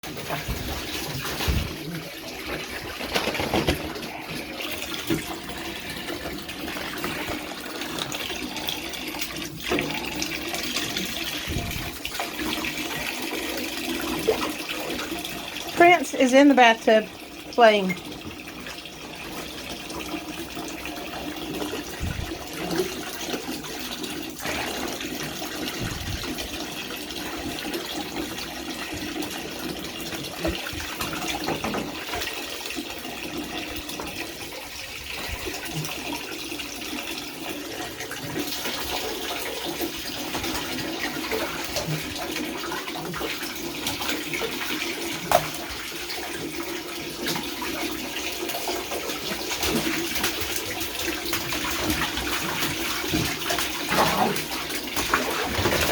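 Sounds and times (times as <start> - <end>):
faucet running into a bathtub: 0.0 - 55.9
puppy splashing in water: 0.1 - 16.1, 18.0 - 55.9.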